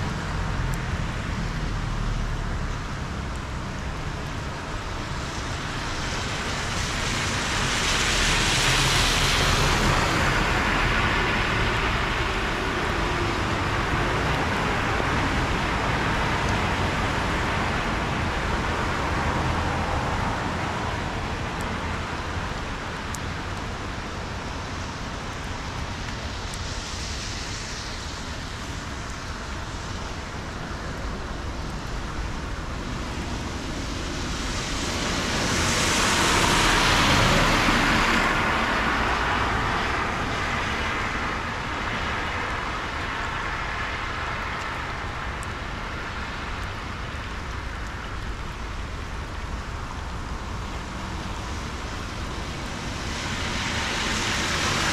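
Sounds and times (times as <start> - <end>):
traffic noise: 0.0 - 54.9.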